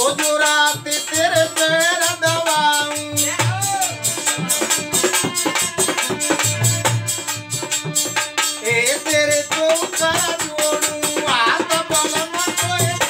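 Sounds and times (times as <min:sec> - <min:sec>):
dholak drum rhythm: 0:00.0 - 0:13.0
harmonium chords: 0:00.0 - 0:13.0
man singing: 0:00.0 - 0:13.0.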